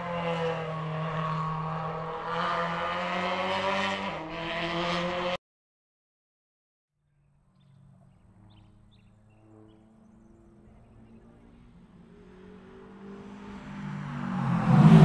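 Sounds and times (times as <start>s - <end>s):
rally car engine approaching: 0.0s - 5.4s, 7.1s - 15.0s.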